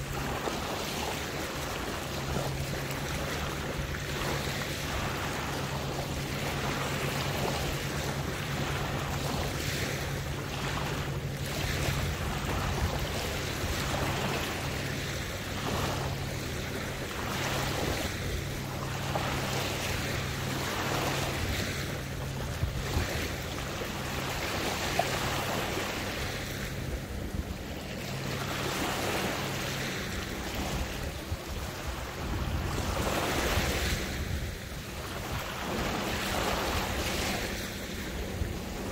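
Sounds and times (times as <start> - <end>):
low hum: 0.0 - 38.9
water lapping and sloshing: 0.0 - 38.9.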